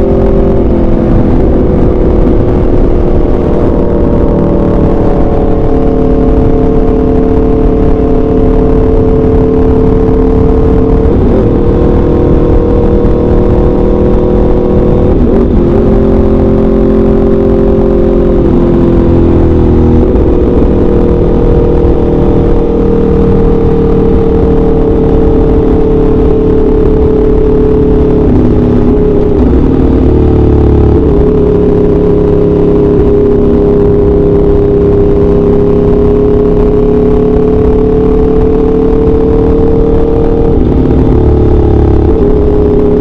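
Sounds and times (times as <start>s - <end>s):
gear change pitch drop: 0.0s - 43.0s
motorcycle engine cruising: 0.0s - 43.0s.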